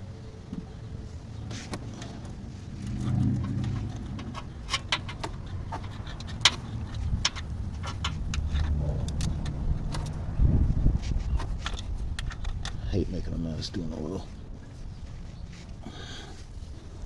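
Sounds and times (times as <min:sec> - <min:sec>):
low rumble of movement: 0:00.0 - 0:17.0.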